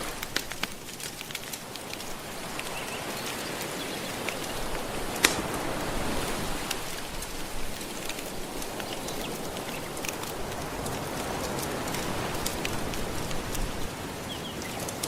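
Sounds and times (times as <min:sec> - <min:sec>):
gentle ocean waves: 0:00.0 - 0:15.0
wood fire crackling: 0:00.0 - 0:15.0.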